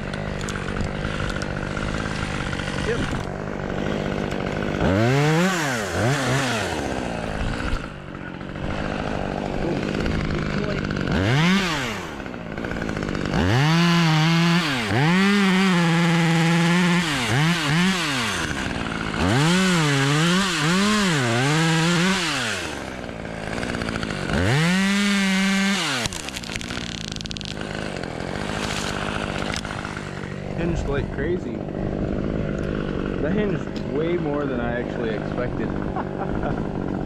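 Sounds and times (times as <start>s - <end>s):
chainsaw revving and cutting wood: 0.0s - 37.0s.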